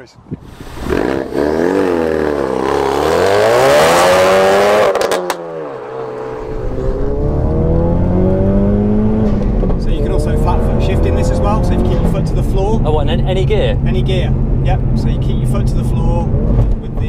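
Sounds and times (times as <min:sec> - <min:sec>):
car engine accelerating: 0:00.4 - 0:17.0.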